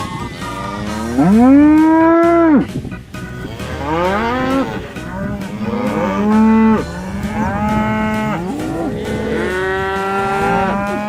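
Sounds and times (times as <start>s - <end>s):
cow mooing: 0.0s - 2.7s, 3.4s - 11.0s
light background music: 0.0s - 11.0s.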